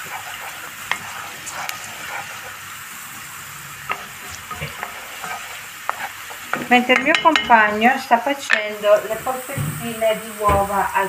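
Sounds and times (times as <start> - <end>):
vegetables sizzling in oil: 0.0 - 11.0
wooden spoon scraping a pan: 0.0 - 11.0.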